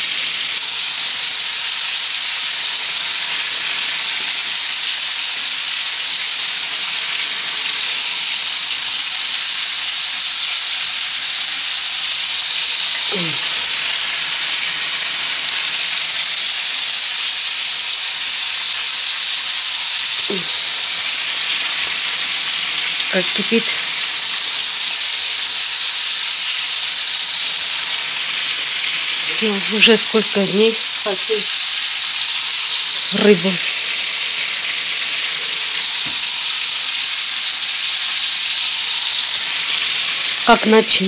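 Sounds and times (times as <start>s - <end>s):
potatoes sizzling in oil: 0.0s - 41.0s.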